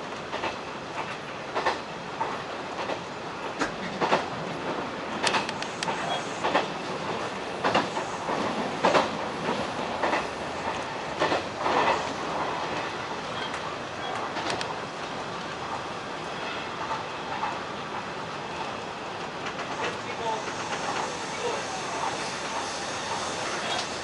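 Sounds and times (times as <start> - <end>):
train running noise: 0.0 - 24.0
train wheels clicking over rail joints: 0.1 - 15.9, 16.8 - 24.0.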